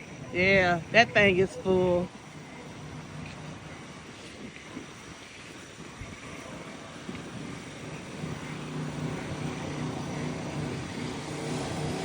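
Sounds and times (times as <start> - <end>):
motor humming: 0.0 - 12.0
wind hissing: 0.0 - 12.0.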